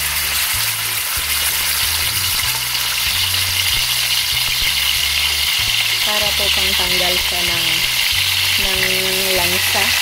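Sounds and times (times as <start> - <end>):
pork frying in hot oil: 0.0 - 10.0.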